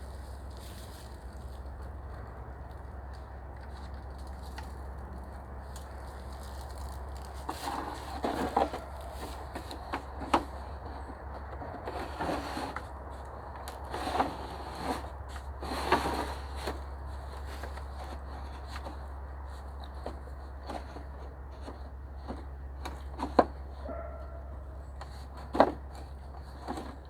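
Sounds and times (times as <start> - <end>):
rustling of dry sticks and leaves: 0.0 - 27.0.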